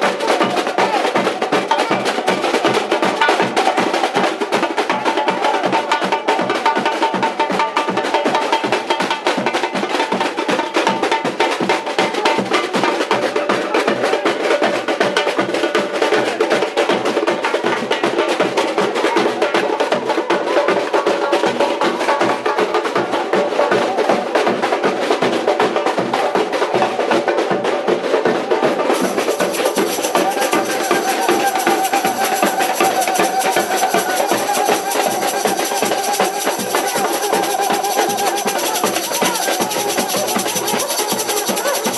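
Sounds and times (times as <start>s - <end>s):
fast samba drumming: 0.0s - 41.9s
hand percussion: 0.0s - 41.9s.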